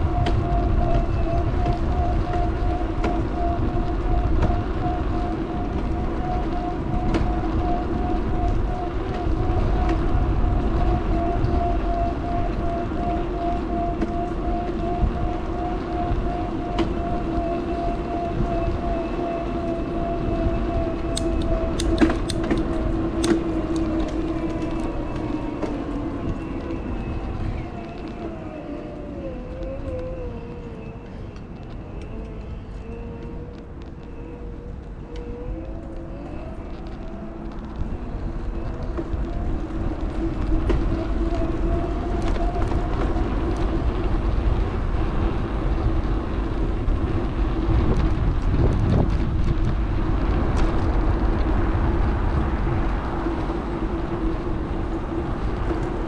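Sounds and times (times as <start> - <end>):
steady whine: 0.0 - 56.0
wind rumbling on microphone: 0.0 - 56.0.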